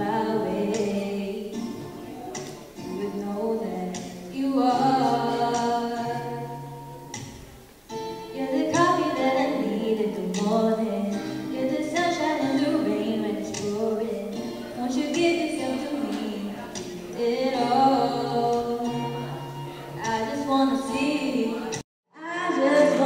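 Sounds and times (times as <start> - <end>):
girl singing into microphone: 0.0 - 7.2, 7.9 - 23.0.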